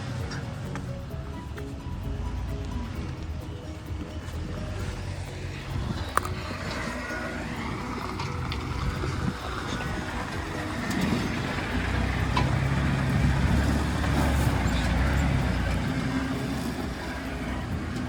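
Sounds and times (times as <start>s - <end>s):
vehicle engine rumbling under load: 0.0s - 18.0s.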